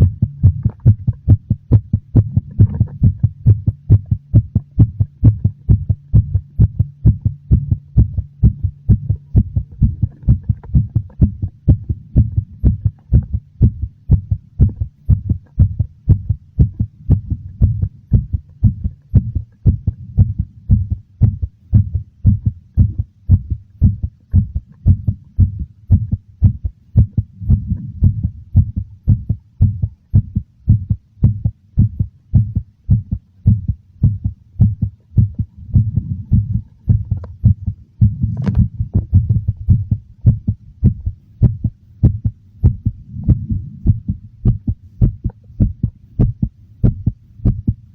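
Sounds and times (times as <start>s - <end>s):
heartbeat thumps: 0.0s - 47.9s.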